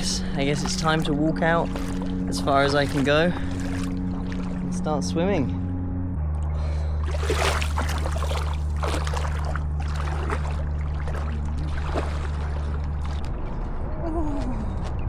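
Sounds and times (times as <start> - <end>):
steady low hum: 0.0 - 15.0
water splashing and sloshing: 0.0 - 15.0.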